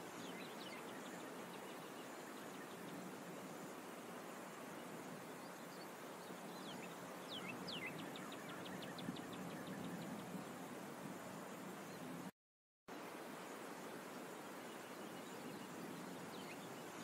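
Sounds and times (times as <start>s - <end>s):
outdoor hiss: 0.0s - 12.3s, 12.9s - 17.0s.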